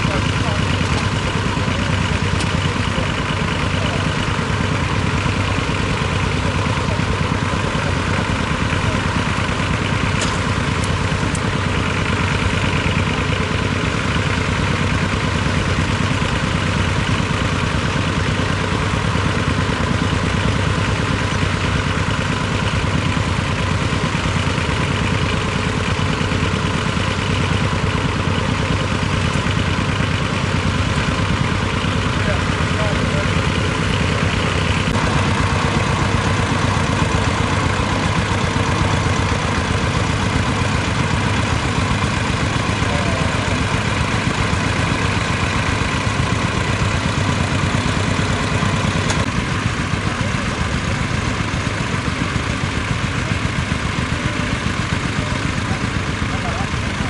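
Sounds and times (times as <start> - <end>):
diesel tractor engines running: 0.0 - 57.0.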